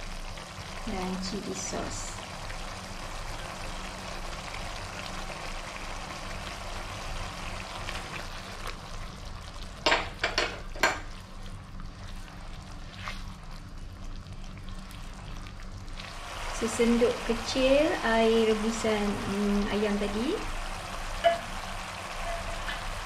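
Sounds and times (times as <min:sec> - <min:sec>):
sauce sizzling in a wok: 0:00.0 - 0:23.0.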